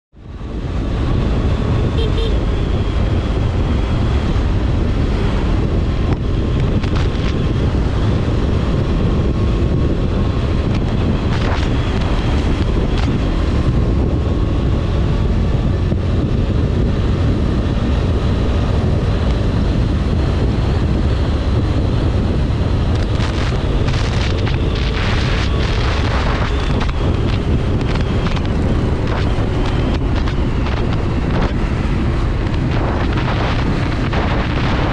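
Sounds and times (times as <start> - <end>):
faint motorcycle engine hum: 0.2 - 34.9
wind buffeting microphone: 0.2 - 34.9.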